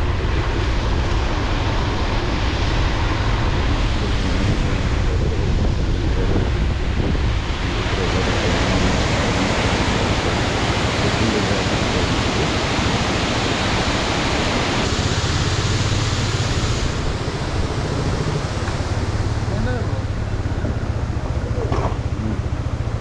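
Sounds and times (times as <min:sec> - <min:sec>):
motorcycle engine drone: 0:00.0 - 0:23.0
wind rushing over microphone: 0:00.0 - 0:23.0.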